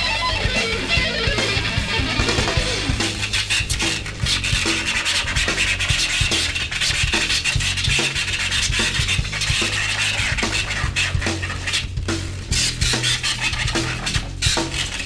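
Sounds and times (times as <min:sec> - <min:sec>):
turntable scratching: 0:00.0 - 0:15.0.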